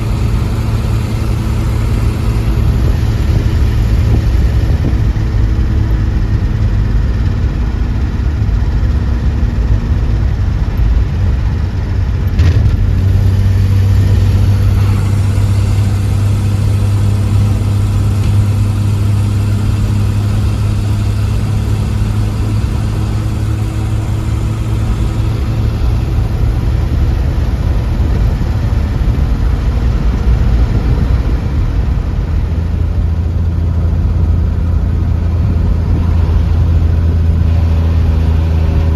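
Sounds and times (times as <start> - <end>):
car engine humming: 0.0 - 38.9
road noise: 0.0 - 38.9.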